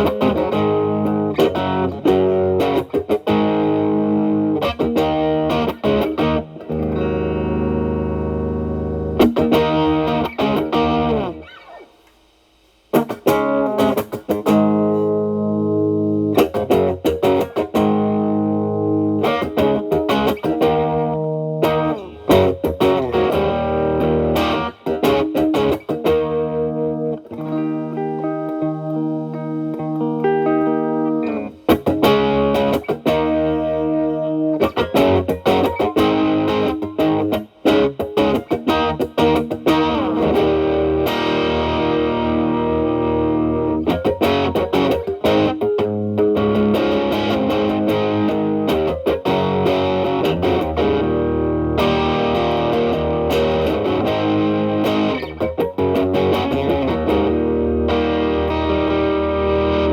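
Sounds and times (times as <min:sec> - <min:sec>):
electric guitar with light crunch: 0:00.0 - 0:59.9.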